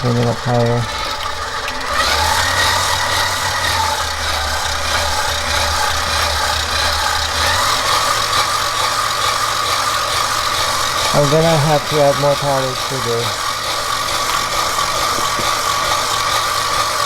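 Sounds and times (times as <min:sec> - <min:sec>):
electric mixer running: 0:00.0 - 0:17.0.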